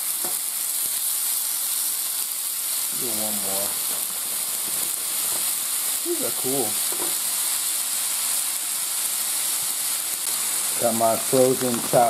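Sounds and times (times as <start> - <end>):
vegetables sizzling on a griddle: 0.0 - 12.0.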